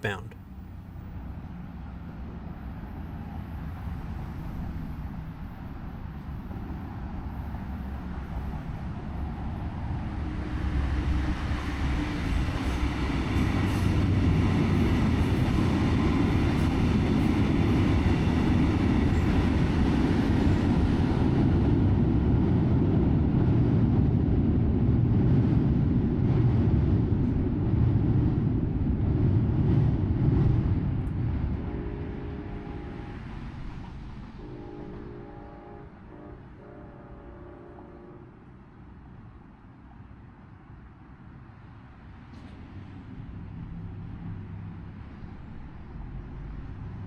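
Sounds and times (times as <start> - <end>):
passenger train passing: 0.0 - 47.0.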